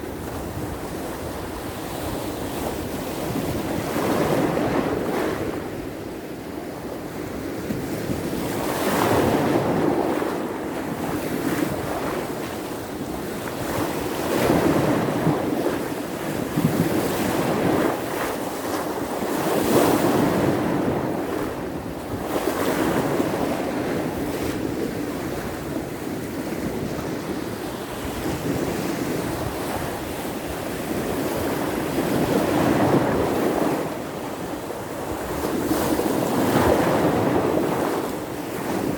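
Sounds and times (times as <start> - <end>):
waves breaking ashore: 0.0 - 38.9
wind gusting over microphone: 0.0 - 38.9.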